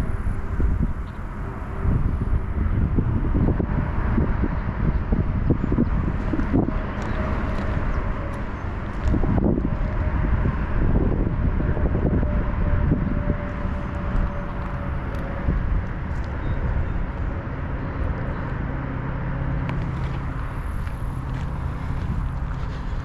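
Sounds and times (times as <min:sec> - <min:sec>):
bike tyres rolling on trail: 0:00.0 - 0:18.8, 0:19.4 - 0:23.0
wind buffeting microphone: 0:00.0 - 0:23.0.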